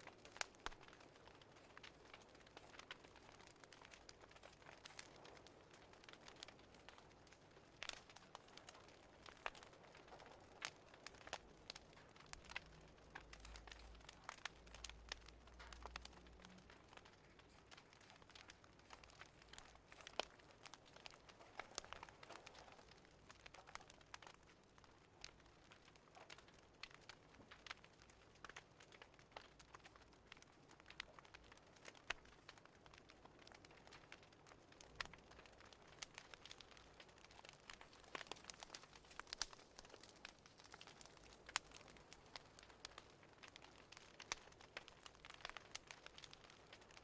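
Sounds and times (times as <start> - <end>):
burning wood crackling and popping: 0.0 - 47.0
faint fire hiss: 0.0 - 47.0.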